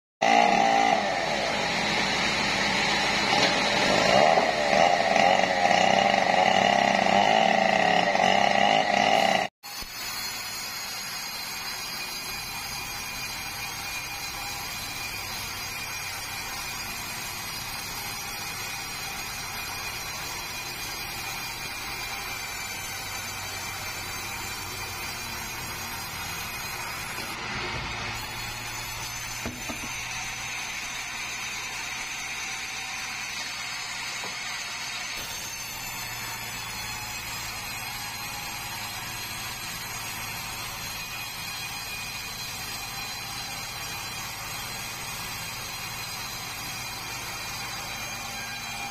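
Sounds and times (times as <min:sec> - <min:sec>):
band saw whining through wood: 0:00.2 - 0:48.9.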